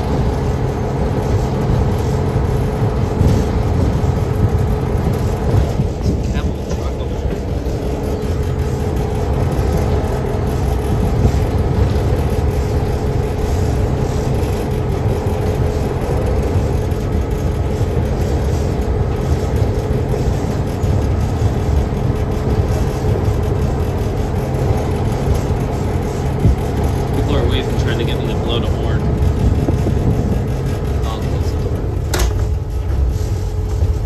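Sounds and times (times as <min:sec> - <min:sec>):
steady hum: 0:00.0 - 0:34.0
train low rumble: 0:00.0 - 0:34.0.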